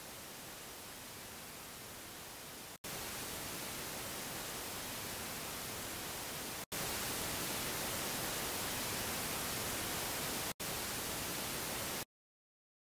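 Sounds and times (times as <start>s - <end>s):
steady white noise hiss: 0.0s - 12.0s.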